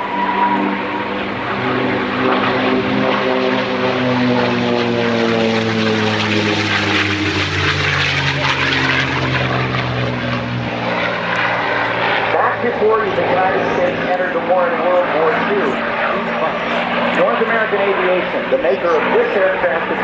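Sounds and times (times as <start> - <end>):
propeller plane engine drone fly-by: 0.0 - 20.0.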